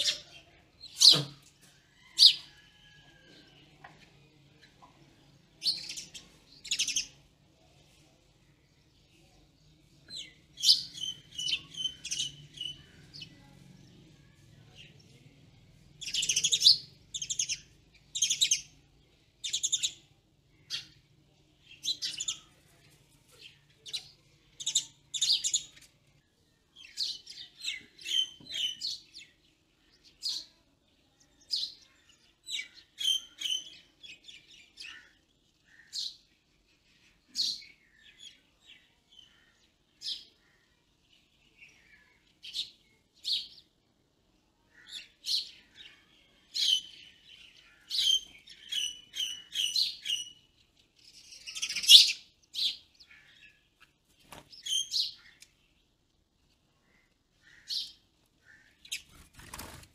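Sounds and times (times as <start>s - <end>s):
birds chirping: 0.0s - 43.9s, 44.7s - 59.9s.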